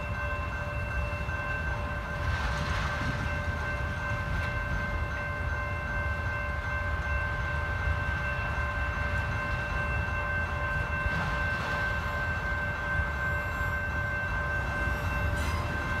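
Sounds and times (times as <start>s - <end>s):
high-pitched ringing tone: 0.0s - 16.0s.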